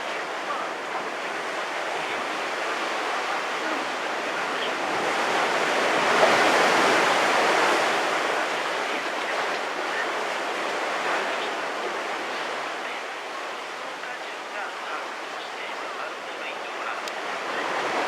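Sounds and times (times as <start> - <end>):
wave breaking on shore: 0.0 - 18.0.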